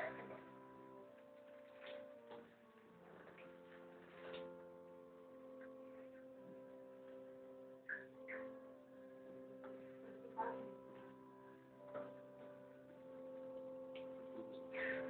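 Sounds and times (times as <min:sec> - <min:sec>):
soft music of long held chords: 0:00.0 - 0:15.0.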